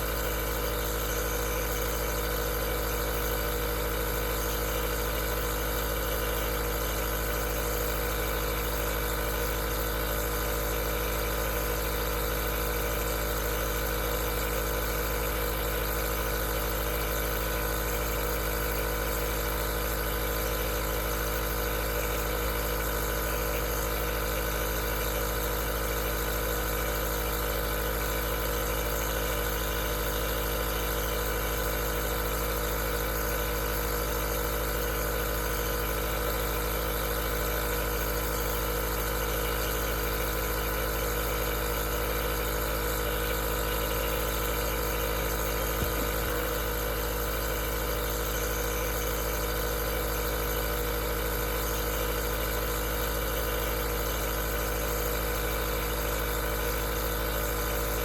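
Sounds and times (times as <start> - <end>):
nebulizer humming: 0.0 - 58.0.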